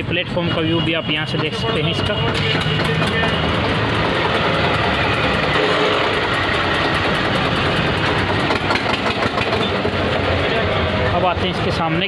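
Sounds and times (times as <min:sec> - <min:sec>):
diesel tractor engine idling: 0:00.6 - 0:11.9.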